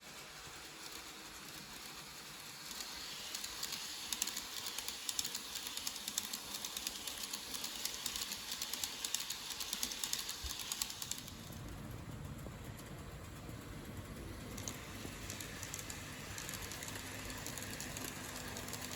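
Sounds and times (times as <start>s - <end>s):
model train motor whir: 0.0s - 18.9s
wheels clicking over rails: 0.0s - 18.9s.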